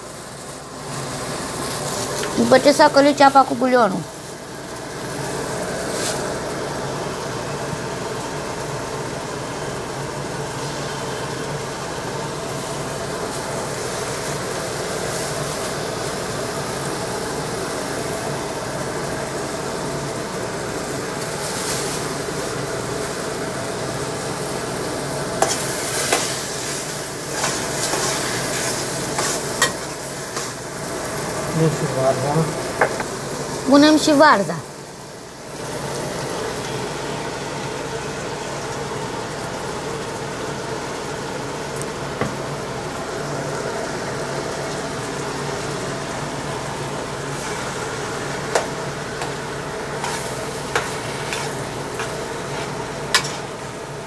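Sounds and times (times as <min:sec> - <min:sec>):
food sizzling in a pot: 0:00.0 - 0:54.0.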